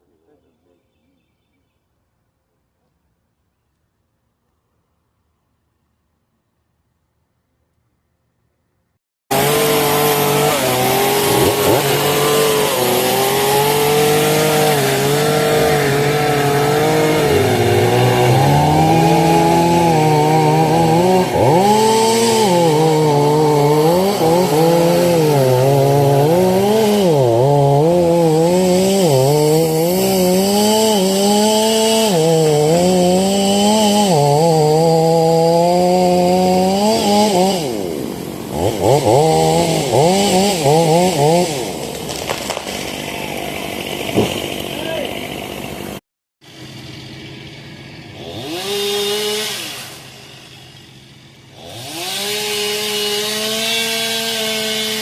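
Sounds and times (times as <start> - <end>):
chainsaw cutting wood: 9.3 - 55.0.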